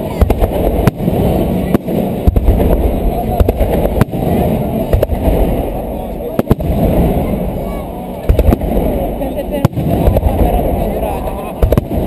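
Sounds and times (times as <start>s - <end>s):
crowd voices rumbling: 0.0s - 12.0s
fireworks bangs: 0.0s - 12.0s.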